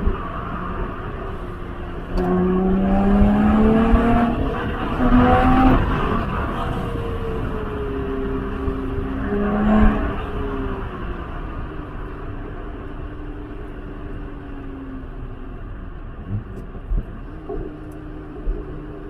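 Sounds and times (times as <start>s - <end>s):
race car engine running: 0.0s - 19.0s.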